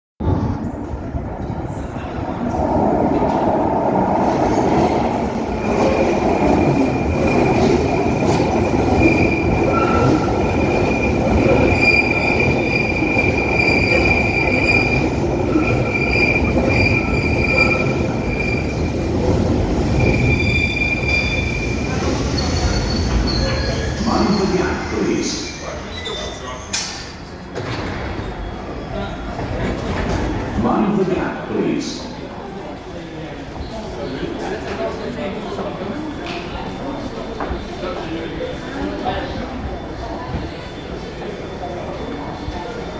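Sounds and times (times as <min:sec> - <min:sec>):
train rumbling in tunnel: 0:00.2 - 0:42.9.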